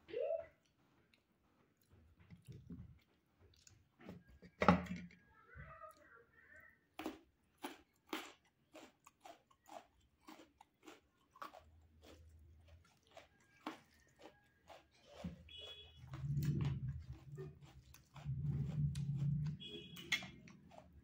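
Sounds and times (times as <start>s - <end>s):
man chewing with wet smacks: 0.4s - 4.5s, 7.0s - 21.0s.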